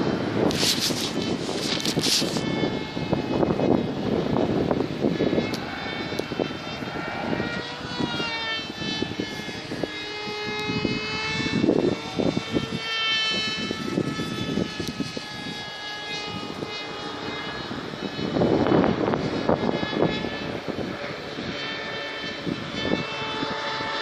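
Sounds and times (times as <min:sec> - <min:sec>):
propeller aircraft motor whining: 0:00.0 - 0:24.0
wind buffeting microphone: 0:00.0 - 0:24.0.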